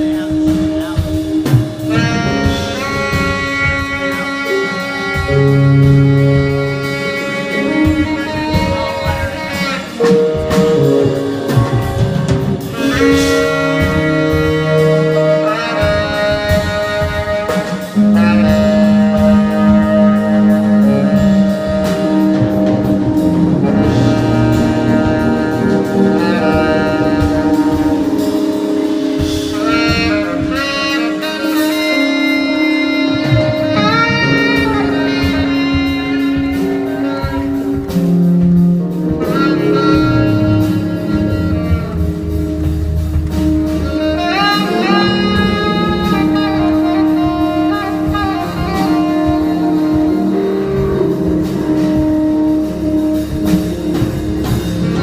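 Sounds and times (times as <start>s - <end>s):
bass: 0.0s - 55.0s
drum kit: 0.0s - 55.0s
guitar: 0.0s - 55.0s
saxophone: 0.0s - 55.0s.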